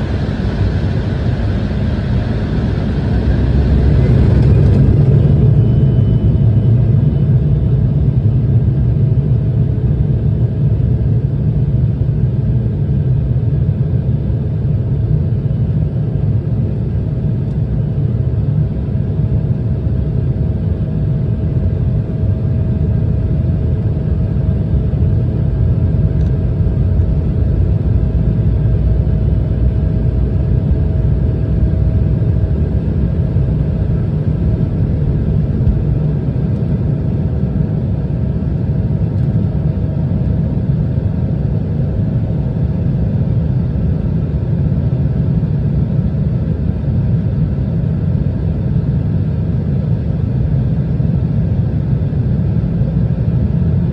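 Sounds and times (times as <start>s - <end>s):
faint steady whine: 0.0s - 53.9s
jet engine low rumble: 0.0s - 53.9s.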